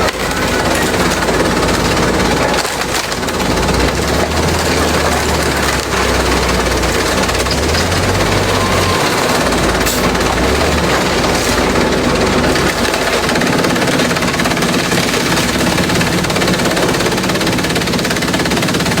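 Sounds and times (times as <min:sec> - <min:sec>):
shredder chewing bamboo: 0:00.0 - 0:19.0.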